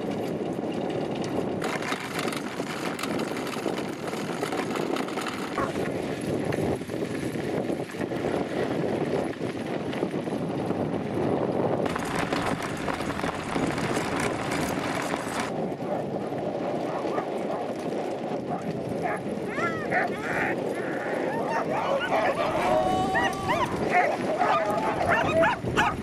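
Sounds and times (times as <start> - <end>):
cart wheels crunching on gravel: 0.0 - 26.0.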